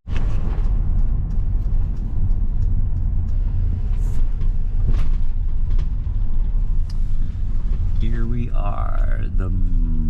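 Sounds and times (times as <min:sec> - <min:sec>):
van engine and road rumble: 0:00.0 - 0:10.0.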